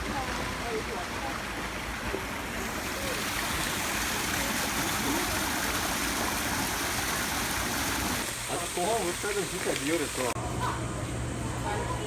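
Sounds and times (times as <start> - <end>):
stream rushing over rocks: 0.0 - 10.4.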